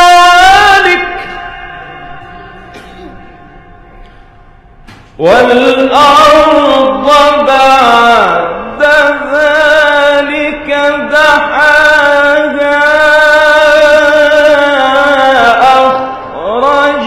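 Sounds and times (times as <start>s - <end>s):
man reciting melodically: 0.0s - 2.7s, 5.2s - 17.0s.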